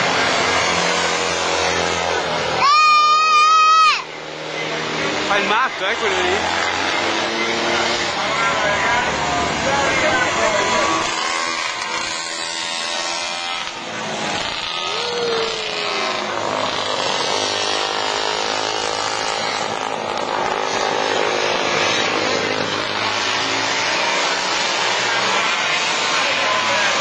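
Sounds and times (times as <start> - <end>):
motorcycle engine racing: 0.0 - 27.0.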